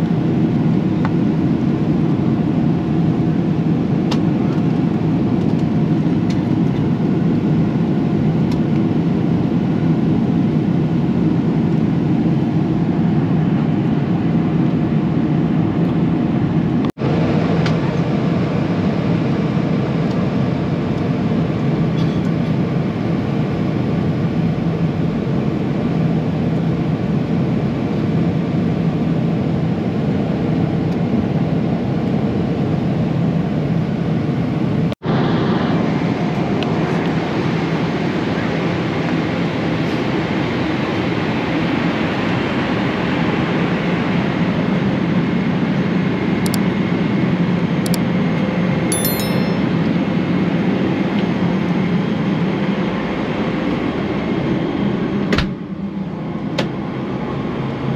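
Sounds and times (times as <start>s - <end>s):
airplane cabin engine and airflow rush: 0.0s - 57.9s.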